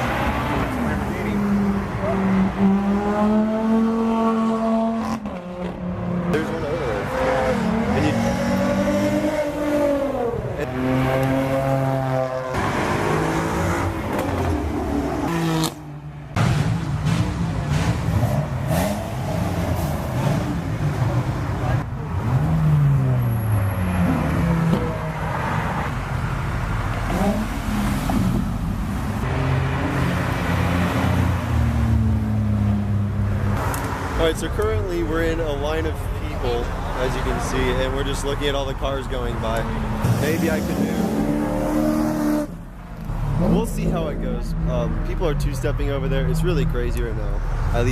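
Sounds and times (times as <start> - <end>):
car engines revving past: 0.0 - 47.9.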